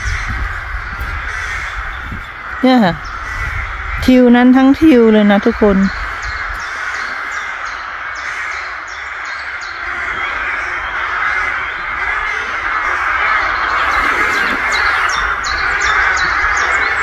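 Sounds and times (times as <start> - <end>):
crows cawing: 0.0 - 4.0, 5.9 - 17.0.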